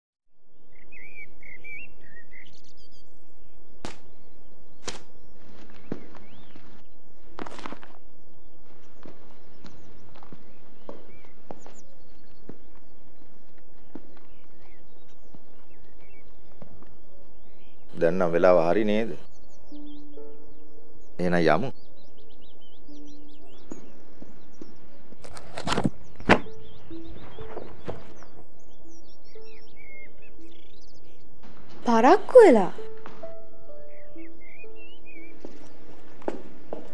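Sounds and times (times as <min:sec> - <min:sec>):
birds chirping: 0:00.4 - 0:36.9
songbirds singing: 0:00.4 - 0:36.9.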